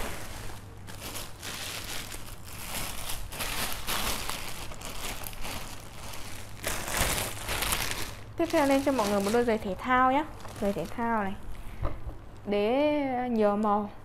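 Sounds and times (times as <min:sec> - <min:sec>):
plastic bags crinkling: 0:00.0 - 0:11.6.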